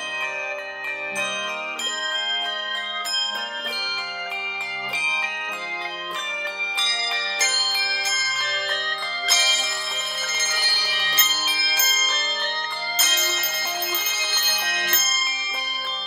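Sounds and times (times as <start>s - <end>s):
handbells ringing: 0.0s - 16.0s.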